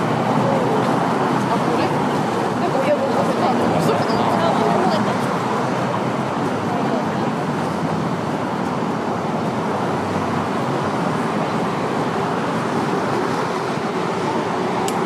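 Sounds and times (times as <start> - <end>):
road traffic rush: 0.0 - 15.0.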